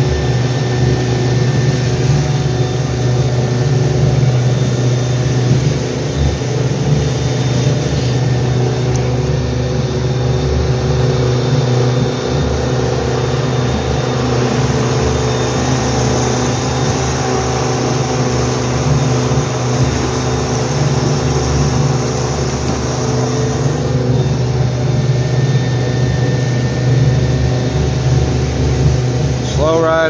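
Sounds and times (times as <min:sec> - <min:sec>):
outboard motor running: 0:00.0 - 0:30.0
water rushing: 0:00.0 - 0:30.0.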